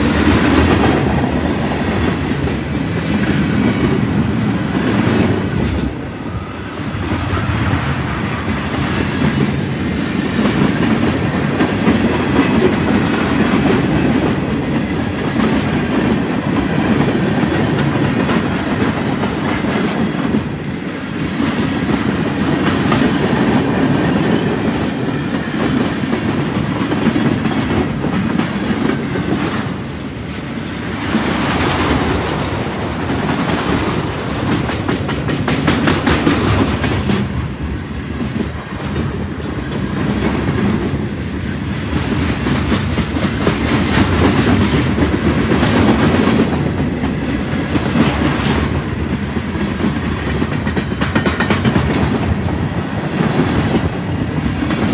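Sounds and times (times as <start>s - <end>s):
clickety-clack over rail joints: 0.0s - 54.9s
steel wheels rumbling on rail: 0.0s - 54.9s.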